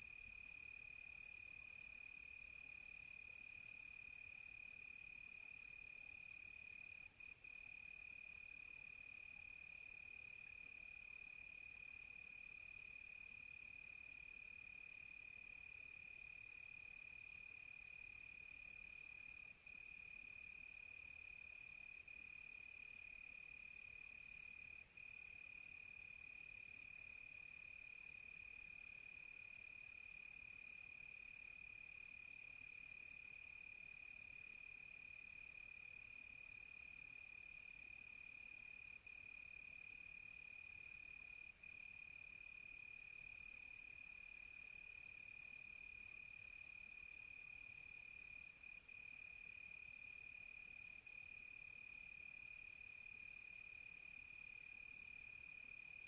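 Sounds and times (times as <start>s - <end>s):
rapid pulsing cricket chorus: 0.0s - 56.0s.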